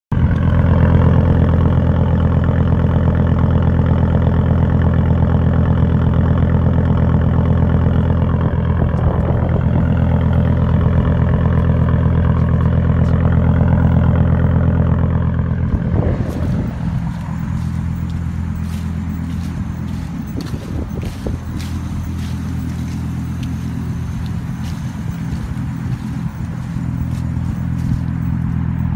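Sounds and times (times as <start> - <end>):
car engine idling: 0.1 - 28.9.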